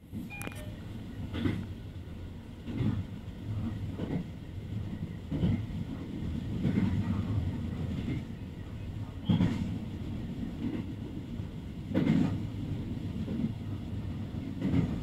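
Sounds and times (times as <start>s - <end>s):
railcar low rumble: 0.0s - 15.0s.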